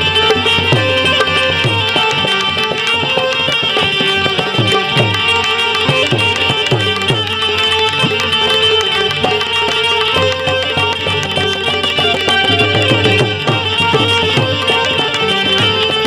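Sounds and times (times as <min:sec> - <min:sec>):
held melodic notes: 0:00.0 - 0:16.0
tabla playing a rhythm: 0:00.0 - 0:16.0.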